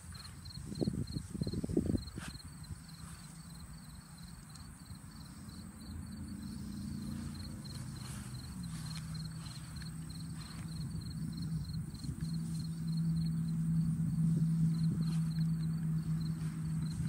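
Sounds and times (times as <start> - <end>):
insect chirping: 0.0 - 17.0
low engine hum: 0.0 - 17.0.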